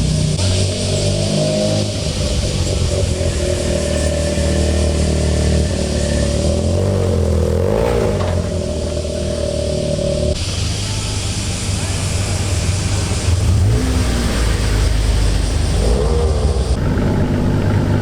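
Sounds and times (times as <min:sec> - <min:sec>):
car exhaust rumbling: 0:00.0 - 0:18.0.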